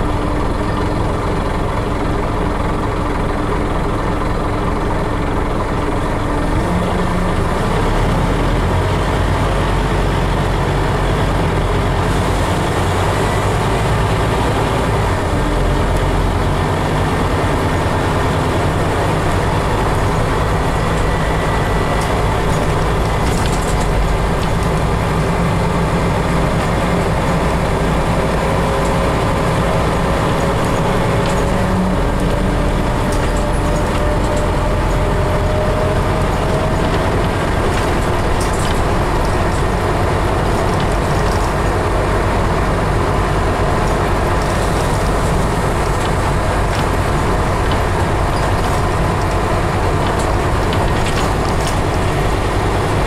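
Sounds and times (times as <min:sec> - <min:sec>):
bus diesel engine drone: 0:00.0 - 0:53.0.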